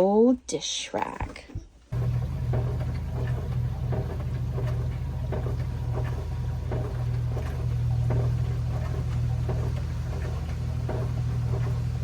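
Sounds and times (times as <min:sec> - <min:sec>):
low mechanical hum: 0:01.8 - 0:12.0.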